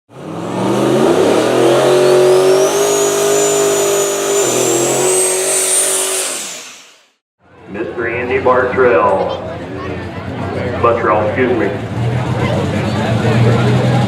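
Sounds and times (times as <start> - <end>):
diesel tractor engine running hard: 0.1 - 14.0
high turbo whine: 0.1 - 14.0.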